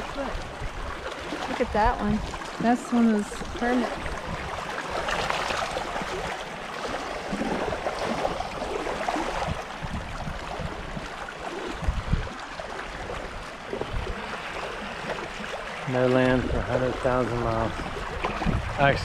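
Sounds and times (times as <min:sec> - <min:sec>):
shallow seawater sloshing: 0:00.0 - 0:19.0.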